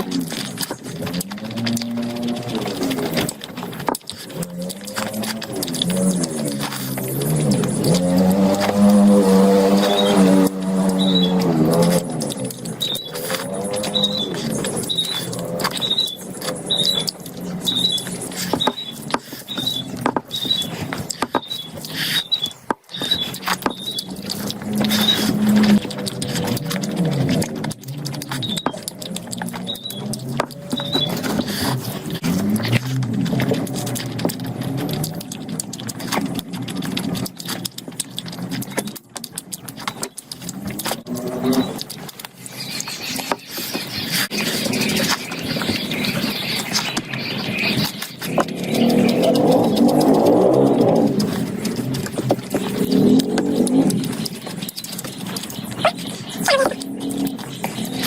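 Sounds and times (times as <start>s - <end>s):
mouth clicks: 0.0s - 58.0s
wet chewing sounds: 0.0s - 58.0s.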